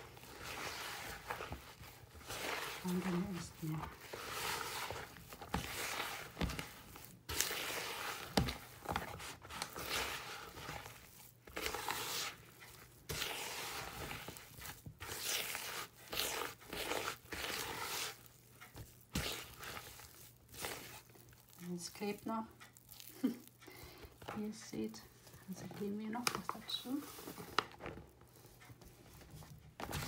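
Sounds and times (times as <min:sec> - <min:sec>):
hands kneading dough: 0:00.0 - 0:30.0.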